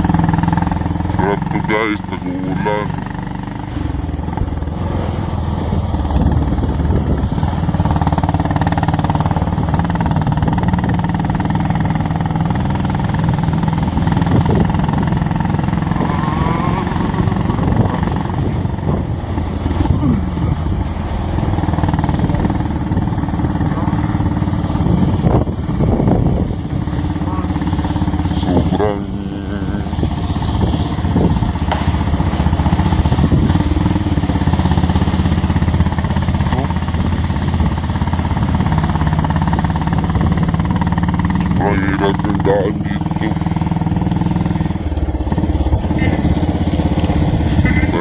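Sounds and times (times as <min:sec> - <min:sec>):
motorcycle engine revving: 0:00.0 - 0:48.0
riding noise: 0:00.0 - 0:48.0.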